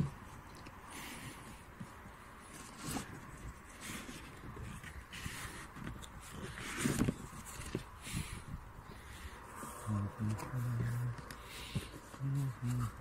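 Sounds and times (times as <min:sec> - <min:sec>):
cardboard rustling and scraping: 0:00.0 - 0:13.0.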